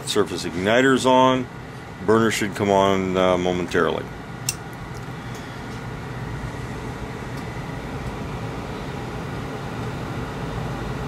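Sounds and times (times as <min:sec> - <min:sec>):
furnace fan humming: 0:00.0 - 0:11.0.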